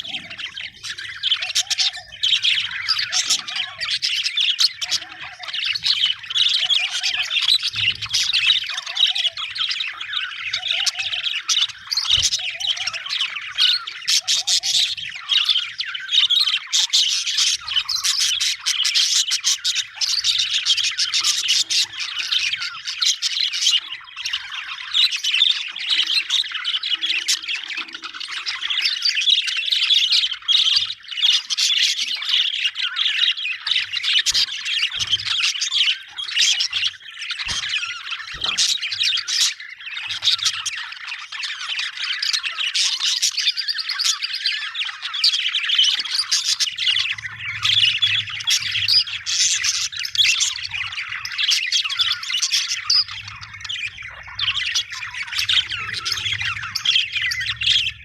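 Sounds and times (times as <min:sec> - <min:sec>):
budgies chattering and chirping: 0:00.0 - 0:58.0.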